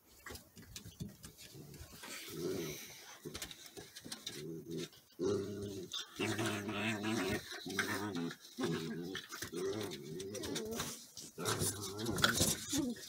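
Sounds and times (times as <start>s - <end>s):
puppies growling: 1.4s - 13.0s.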